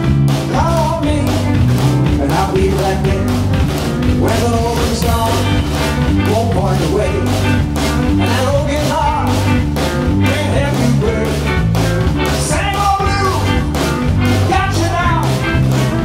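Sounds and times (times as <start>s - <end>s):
bass guitar: 0.0s - 16.0s
drum kit beat: 0.0s - 16.0s
electric guitar: 0.0s - 16.0s
man singing lead vocal: 0.4s - 15.7s.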